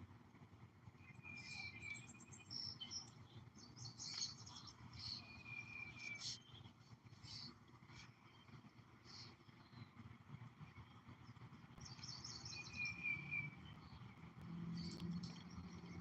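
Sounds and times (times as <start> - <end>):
faint birdsong: 0.3 - 16.0.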